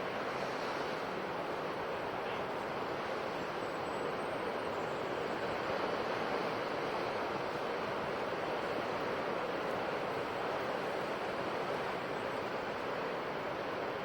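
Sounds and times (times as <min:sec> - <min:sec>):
ocean waves washing on shore: 0:00.0 - 0:14.0.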